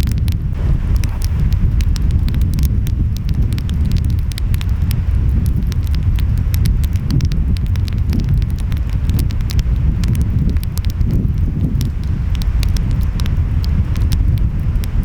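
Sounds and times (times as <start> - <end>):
ocean waves rumbling: 0.0 - 15.0
wind: 0.0 - 15.0
wood fire crackling: 0.0 - 15.0.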